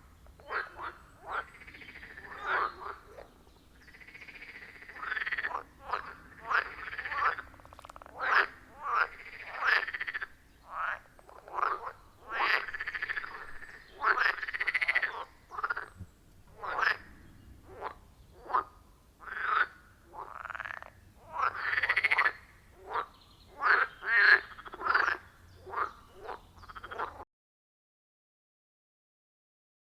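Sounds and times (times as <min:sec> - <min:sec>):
frogs croaking: 0:00.0 - 0:27.2.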